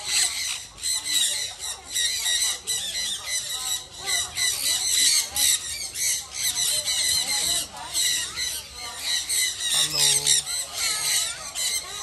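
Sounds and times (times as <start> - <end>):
parrots screeching: 0.0 - 12.0.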